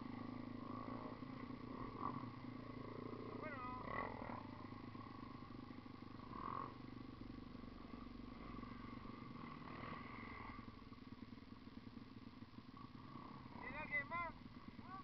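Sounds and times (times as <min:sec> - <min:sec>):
dirt bike engine at low revs: 0:00.0 - 0:15.0.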